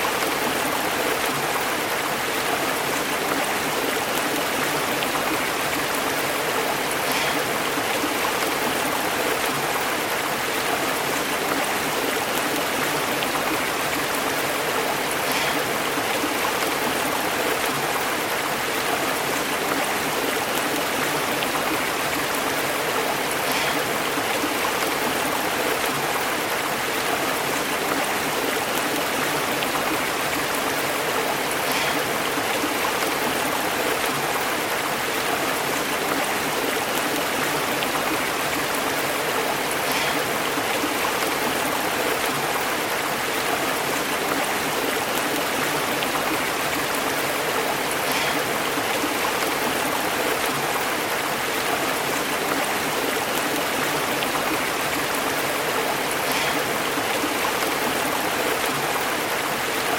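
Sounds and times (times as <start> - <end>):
stream burbling over rocks: 0.0 - 59.9.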